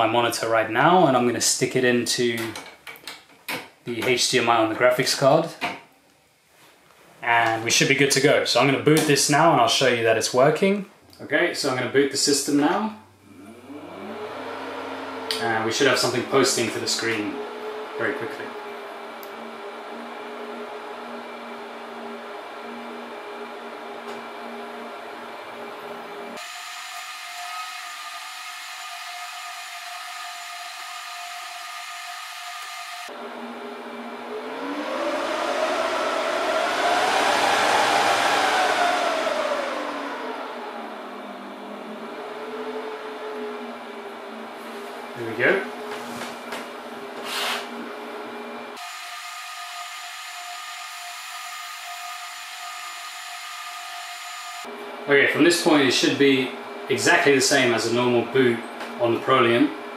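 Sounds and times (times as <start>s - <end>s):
server cooling fans whirring: 7.0s - 59.9s
high whining tones: 11.7s - 59.9s.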